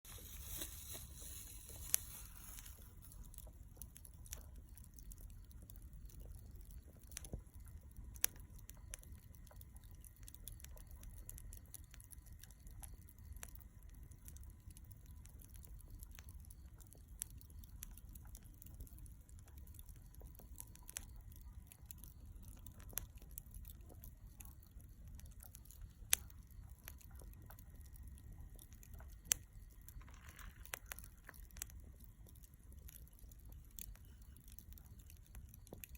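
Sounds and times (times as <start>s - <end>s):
charcoal crackling and popping: 0.0s - 35.9s
faint low rumble: 0.0s - 35.9s.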